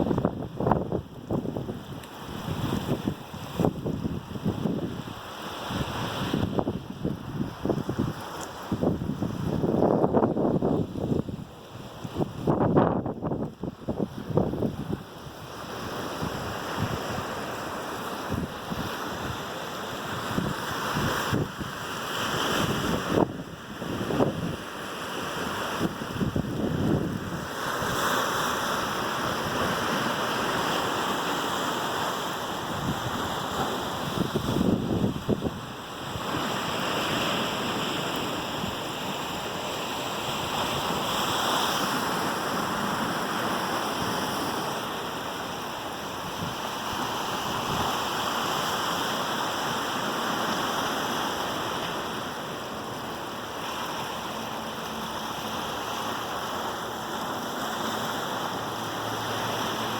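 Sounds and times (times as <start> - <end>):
waves and spray rushing: 0.0 - 59.9.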